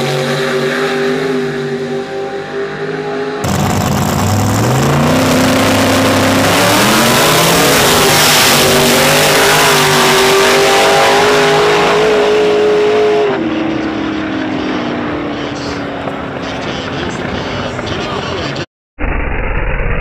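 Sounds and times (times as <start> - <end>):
drag car engines racing: 0.0 - 18.6.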